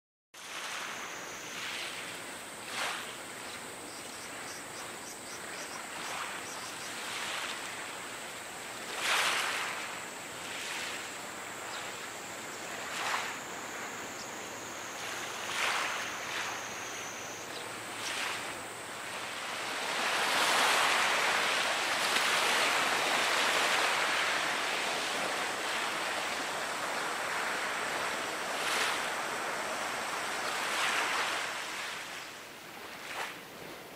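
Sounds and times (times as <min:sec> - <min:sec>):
wind and water rushing: 0:00.4 - 0:33.9.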